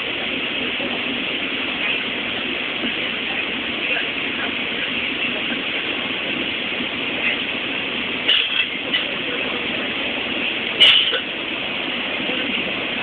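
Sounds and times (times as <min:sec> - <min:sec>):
train carriage rumble: 0:00.0 - 0:13.0.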